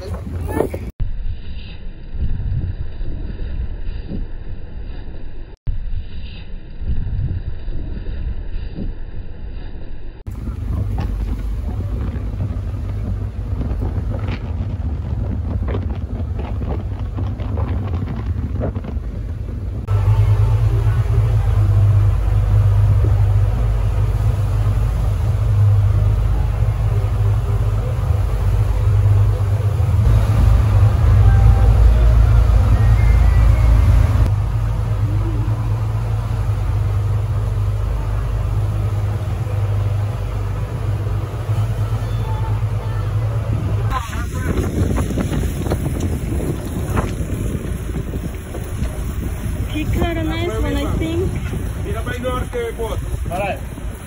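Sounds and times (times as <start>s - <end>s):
wind on microphone: 0.0s - 54.0s
boat engines droning: 10.3s - 54.0s
wake rushing: 10.3s - 54.0s.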